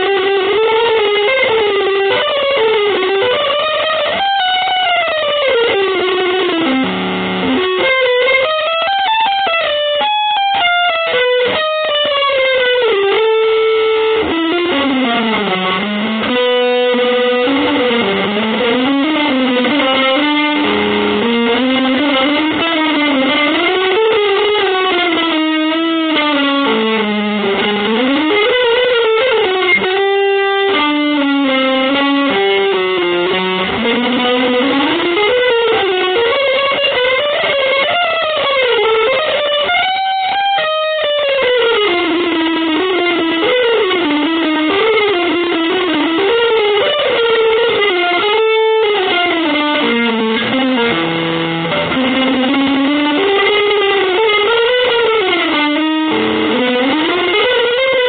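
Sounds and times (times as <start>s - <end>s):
electric guitar melody: 0.0s - 58.0s.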